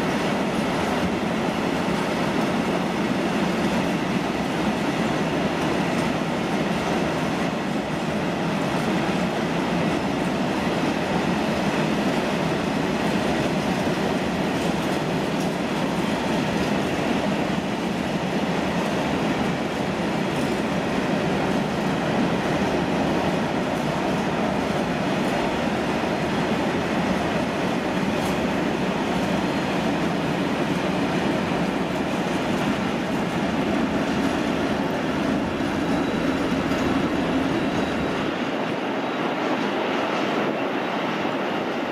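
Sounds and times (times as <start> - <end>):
wheels on rails: 0.0 - 38.6
freight train rolling past: 0.0 - 41.9.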